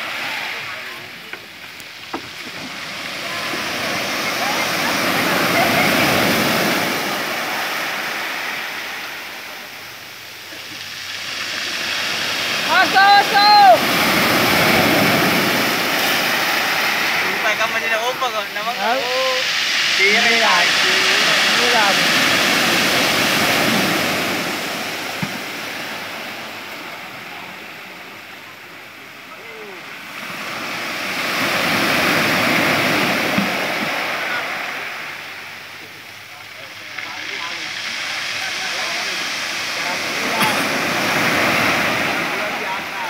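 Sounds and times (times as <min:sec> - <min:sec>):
waves breaking on shore: 0:00.0 - 0:43.0.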